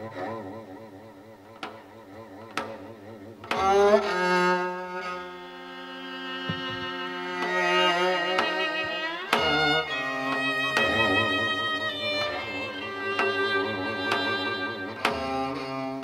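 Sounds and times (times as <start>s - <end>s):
bowed strings playing held notes: 1.6s - 16.0s.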